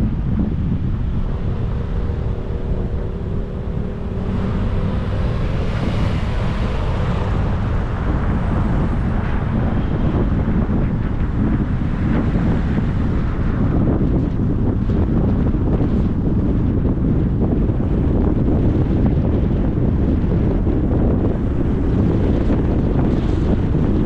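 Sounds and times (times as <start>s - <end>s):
road noise rumble: 0.0s - 24.0s
wind buffeting microphone: 0.0s - 24.0s.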